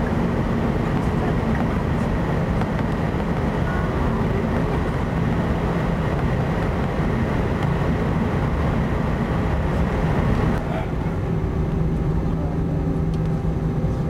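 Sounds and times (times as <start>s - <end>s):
faint engine whine: 0.0s - 14.0s
jet engines low hum: 0.0s - 14.0s.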